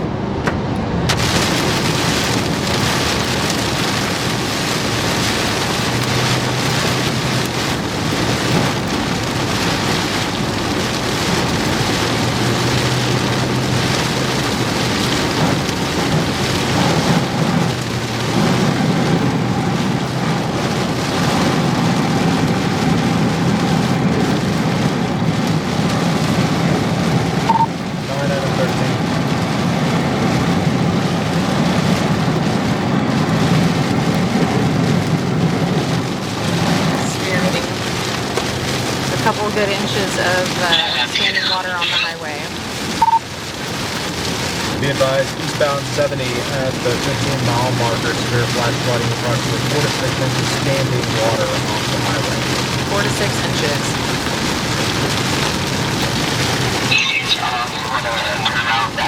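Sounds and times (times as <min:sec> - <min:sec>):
heavy rain pelting a car: 0:00.0 - 0:59.0
low road hum: 0:00.0 - 0:59.0.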